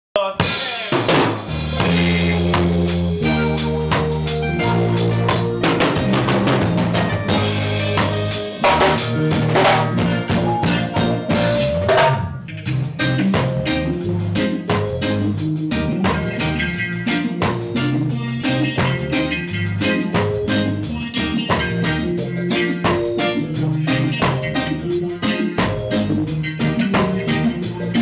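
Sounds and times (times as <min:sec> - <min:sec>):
bass guitar lines: 0:00.2 - 0:28.0
drum kit beat: 0:00.2 - 0:28.0
keyboard chords: 0:00.4 - 0:28.0.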